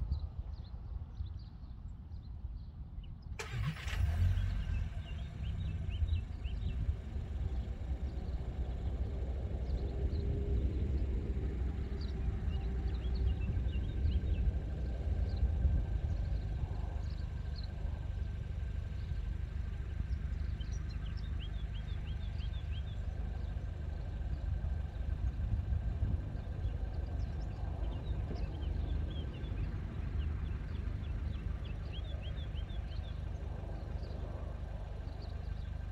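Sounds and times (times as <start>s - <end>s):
car engine idling: 3.4s - 35.9s.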